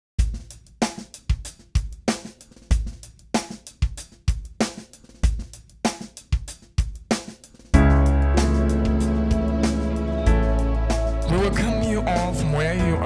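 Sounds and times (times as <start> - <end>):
drum kit playing a beat: 0.2 - 13.0.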